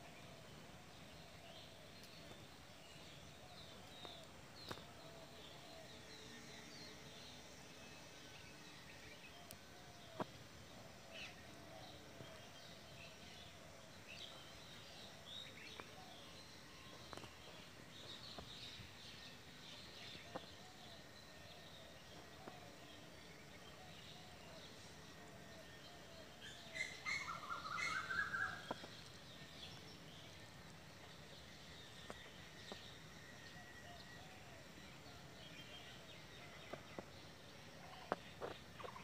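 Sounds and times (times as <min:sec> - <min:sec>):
small birds chirping: 0:00.0 - 0:06.0, 0:09.0 - 0:39.0.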